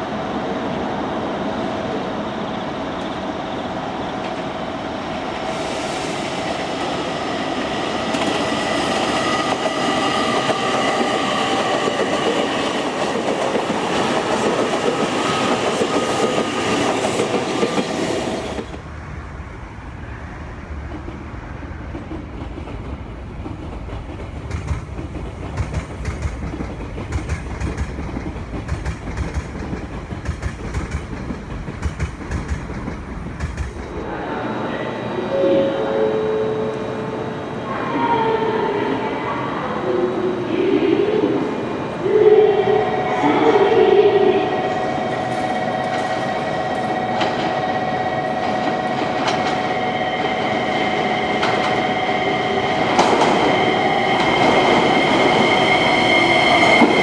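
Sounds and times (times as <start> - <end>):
train running noise: 0.0 - 57.0.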